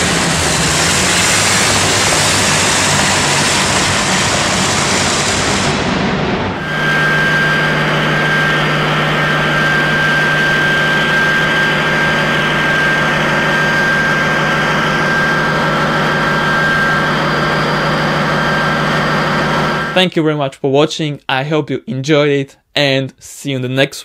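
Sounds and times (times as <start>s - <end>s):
diesel engine droning: 0.0s - 20.0s
high steady engine whine: 0.0s - 20.0s.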